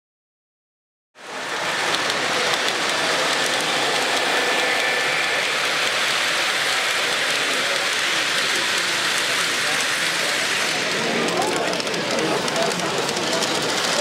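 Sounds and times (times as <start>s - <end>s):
crowd hubbub: 1.2s - 14.0s
model train running: 1.2s - 14.0s.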